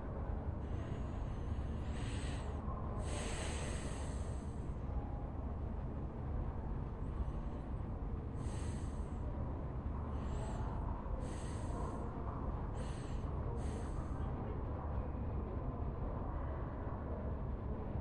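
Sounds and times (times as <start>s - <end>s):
low rumble of room tone: 0.0s - 18.0s.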